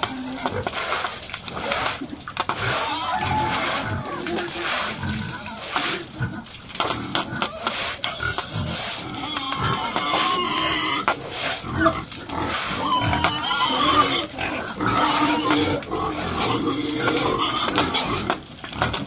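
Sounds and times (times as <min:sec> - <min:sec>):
pigs squealing and grunting: 0:00.0 - 0:19.0.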